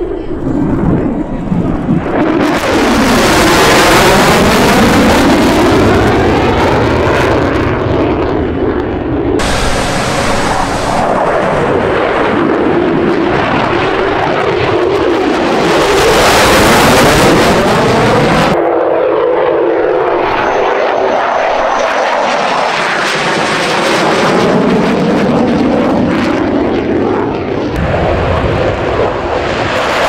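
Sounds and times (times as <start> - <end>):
fighter jet engines roaring: 0.0 - 30.0.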